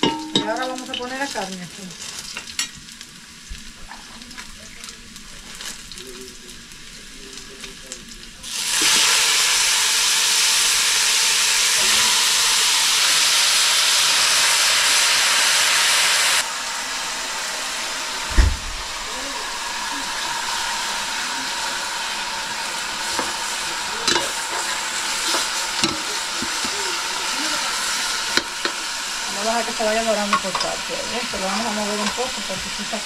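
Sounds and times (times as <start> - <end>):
meat sizzling in hot oil: 0.0 - 33.0.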